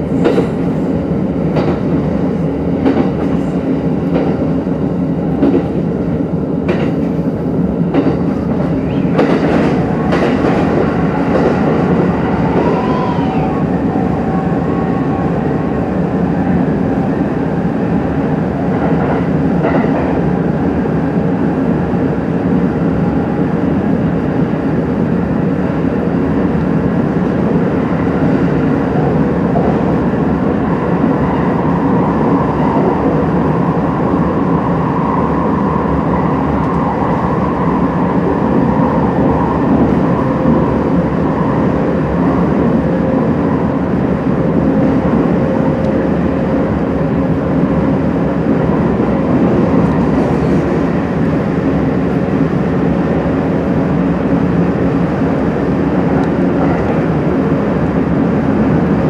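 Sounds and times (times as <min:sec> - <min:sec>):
faint train whine: 0:00.0 - 0:59.0
train wheels rumbling on rail: 0:00.0 - 0:59.0.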